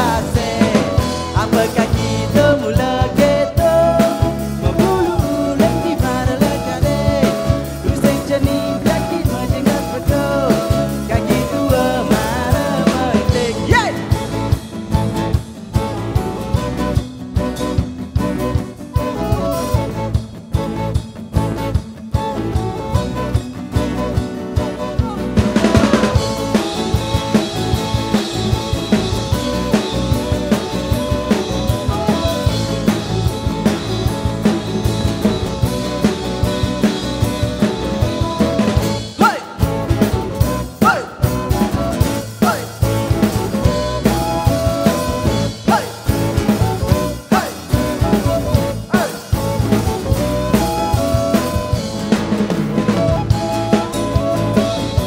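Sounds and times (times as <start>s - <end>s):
drum kit beat: 0.0s - 55.0s
live band instrumental: 0.0s - 55.0s.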